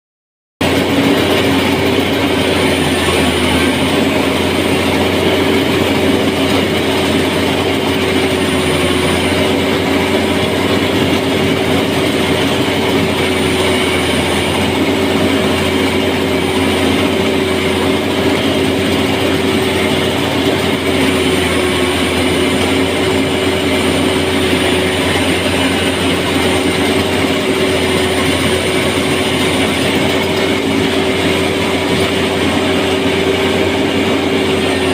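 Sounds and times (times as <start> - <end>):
engine low drone: 0.6 - 34.9.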